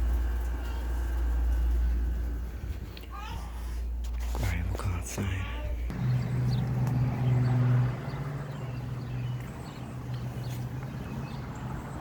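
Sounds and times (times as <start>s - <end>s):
air conditioner hum: 0.0s - 11.3s.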